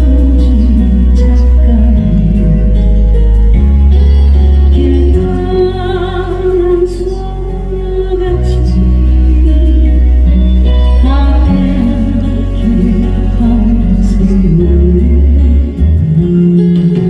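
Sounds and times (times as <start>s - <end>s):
slow ballad music: 0.0s - 17.0s.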